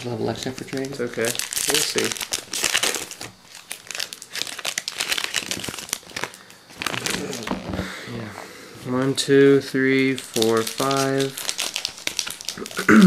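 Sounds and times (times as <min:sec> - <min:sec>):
foil wrapper crinkling: 0:00.0 - 0:07.8, 0:09.8 - 0:12.9.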